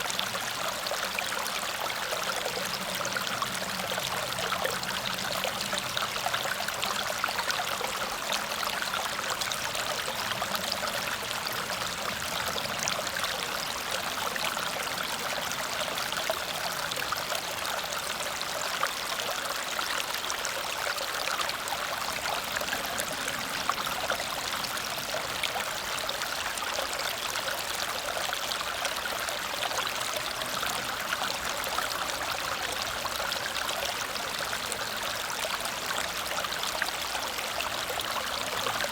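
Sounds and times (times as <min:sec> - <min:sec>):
small waterfall splashing over rocks: 0:00.0 - 0:38.9.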